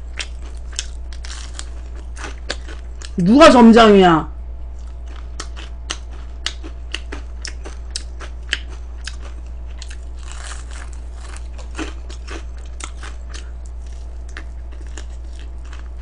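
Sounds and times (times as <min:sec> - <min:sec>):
crunchy chewing: 0:00.0 - 0:03.2, 0:04.7 - 0:16.0
steady low hum: 0:00.0 - 0:16.0.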